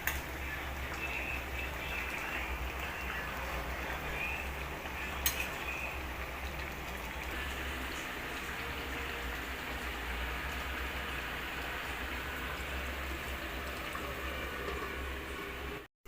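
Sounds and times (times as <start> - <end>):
chicken sizzling in a pan: 0.0 - 15.8.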